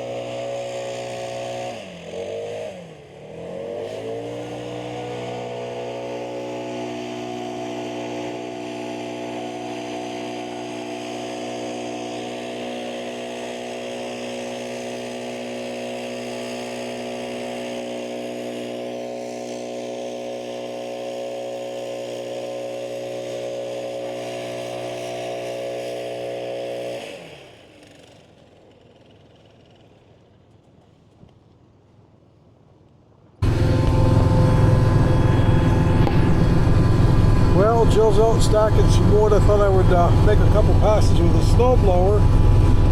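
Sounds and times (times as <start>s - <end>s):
engine running and winding down: 0.0s - 30.3s, 33.4s - 42.9s.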